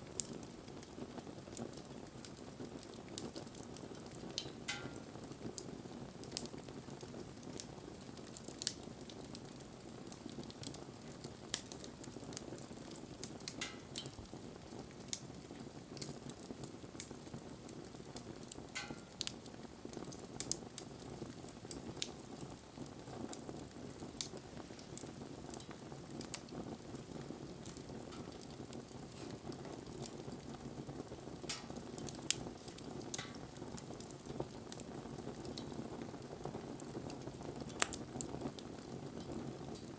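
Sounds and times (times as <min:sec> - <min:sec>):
burning wood crackling and popping: 0:00.0 - 0:39.9
flames hissing: 0:00.0 - 0:39.9.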